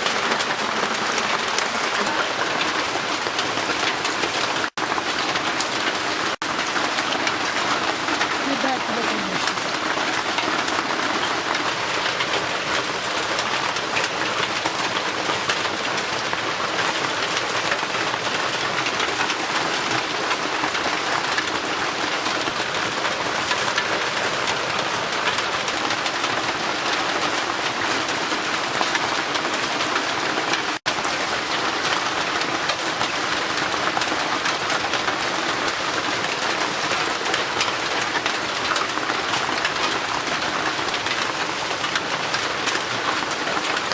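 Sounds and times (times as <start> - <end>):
heavy rain on a roof: 0.0 - 43.9.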